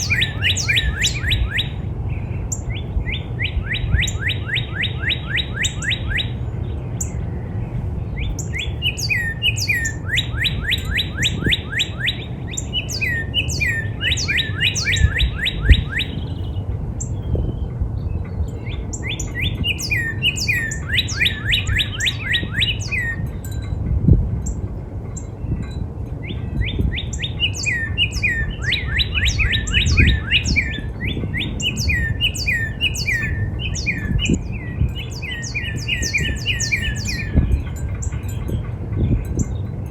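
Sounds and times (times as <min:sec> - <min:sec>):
bird singing whistled notes: 0:00.0 - 0:07.4, 0:08.0 - 0:23.8, 0:24.4 - 0:39.7.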